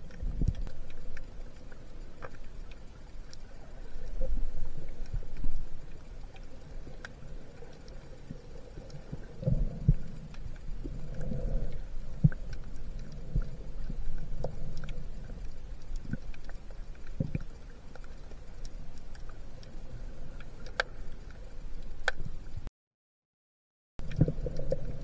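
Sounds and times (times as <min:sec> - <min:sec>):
underwater clicks and ticks: 0:00.0 - 0:22.7, 0:24.0 - 0:25.0
underwater rumble of moving water: 0:00.0 - 0:22.7, 0:24.0 - 0:25.0.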